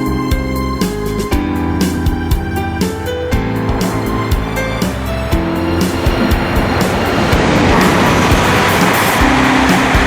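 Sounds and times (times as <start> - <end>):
background music: 0.0 - 10.0
high-speed train passing: 0.0 - 10.0
light rail clacks: 0.0 - 10.0.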